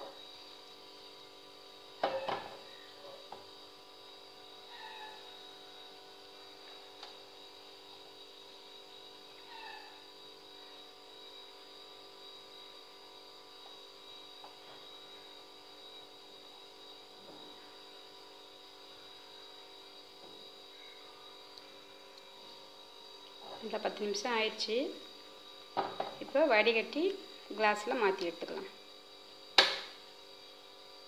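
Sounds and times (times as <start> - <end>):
faint mechanical hum: 0.0 - 31.0.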